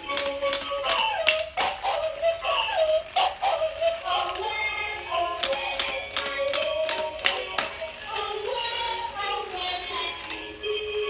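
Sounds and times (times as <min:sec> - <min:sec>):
electronic toy melody: 0:00.0 - 0:11.0.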